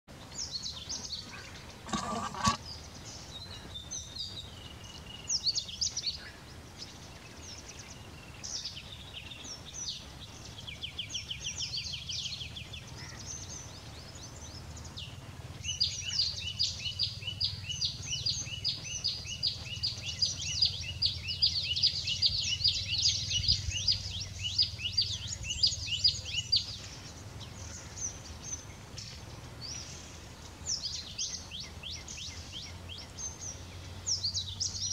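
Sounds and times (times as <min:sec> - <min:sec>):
small birds calling: 0:00.1 - 0:34.9.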